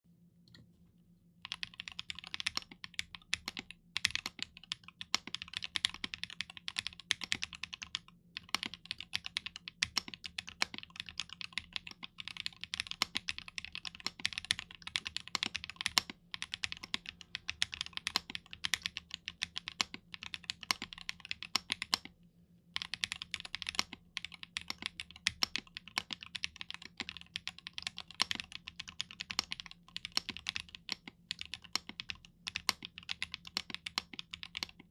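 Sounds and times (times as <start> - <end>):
fast mechanical keyboard typing: 1.4 - 22.1, 22.8 - 34.9.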